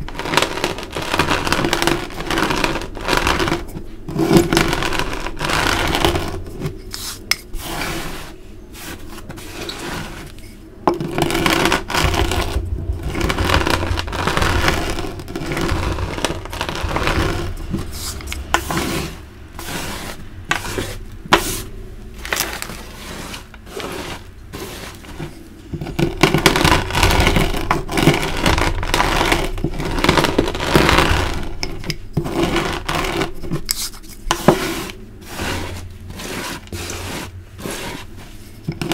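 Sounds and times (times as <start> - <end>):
chalk pieces cracking: 0.0 - 10.4, 11.0 - 38.9
chalk crunching under rolling pin: 0.0 - 38.9.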